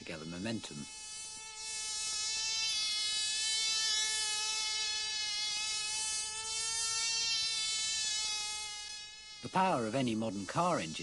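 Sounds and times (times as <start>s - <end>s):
model aeroplane engine buzzing: 0.0s - 11.0s.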